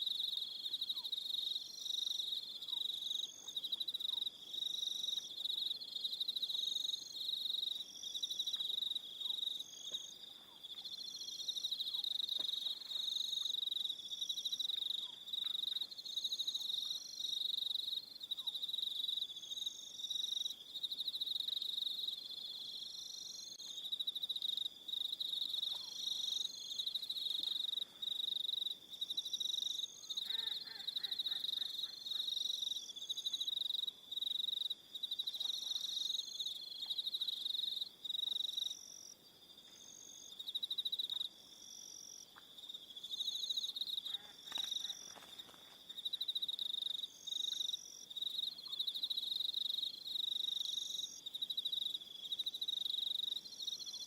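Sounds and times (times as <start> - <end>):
crickets chirping: 0.0 - 54.0
higher insect call: 0.0 - 54.0.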